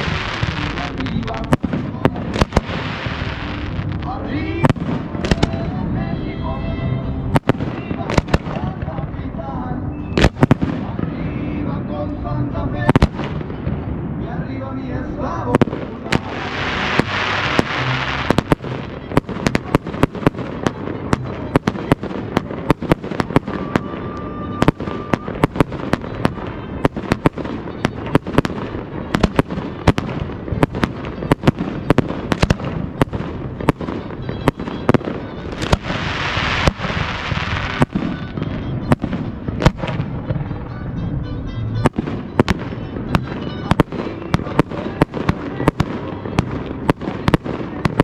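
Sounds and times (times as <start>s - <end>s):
dense fireworks hiss: 0.0s - 6.5s, 7.2s - 9.5s, 10.2s - 41.0s, 41.8s - 48.0s
fireworks bangs: 0.0s - 48.0s.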